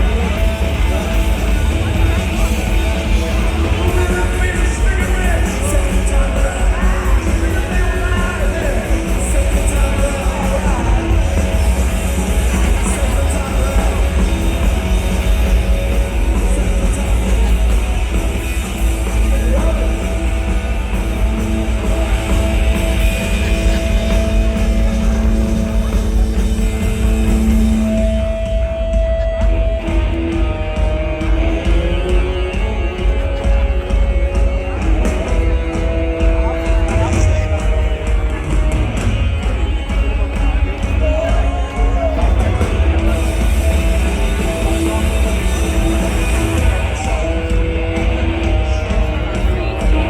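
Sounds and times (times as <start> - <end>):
vocals: 0.0 - 30.5, 31.2 - 50.0
live punk rock band: 0.0 - 50.0.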